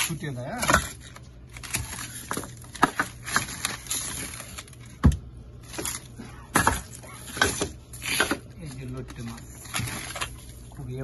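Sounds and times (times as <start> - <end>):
frozen packets clicking and knocking: 0.0 - 11.0.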